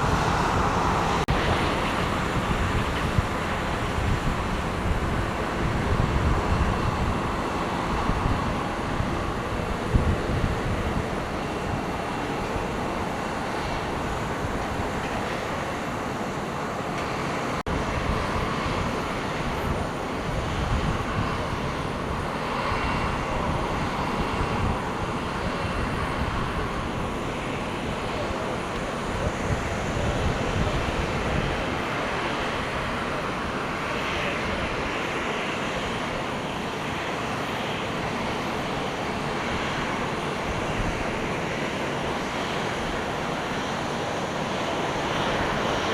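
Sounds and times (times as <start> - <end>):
aircraft engines running: 0.0 - 45.9
wind gusting on microphone: 0.0 - 45.9.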